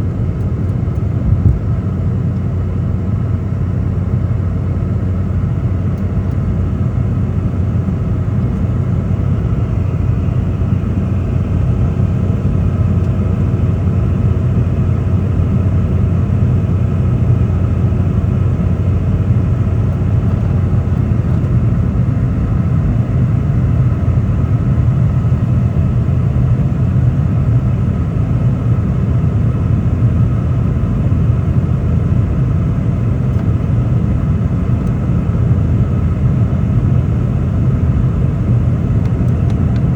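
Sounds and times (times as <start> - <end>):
aircraft cabin rumble: 0.0 - 39.9
faint engine hum: 0.0 - 39.9.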